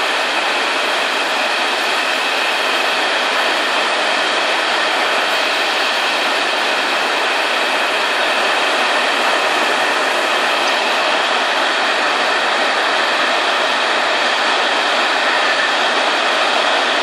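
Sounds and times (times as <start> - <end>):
torrential rain on a roof: 0.0 - 17.0.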